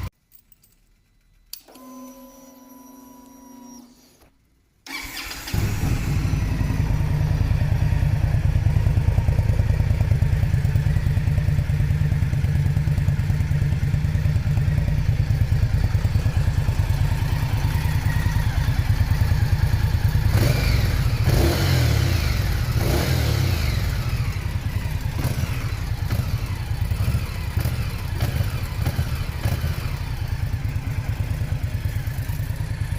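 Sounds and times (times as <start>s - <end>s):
motorcycle engine pulsing: 4.9s - 32.9s.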